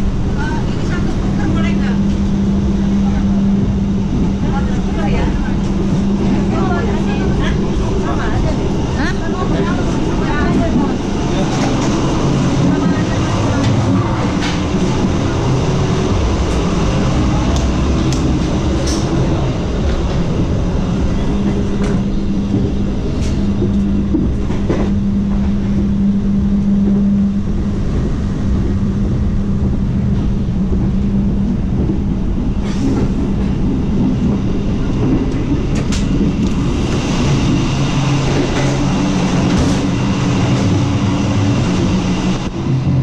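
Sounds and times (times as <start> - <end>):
low hum: 0.0 - 43.0
train wheels rumbling on track: 0.0 - 43.0.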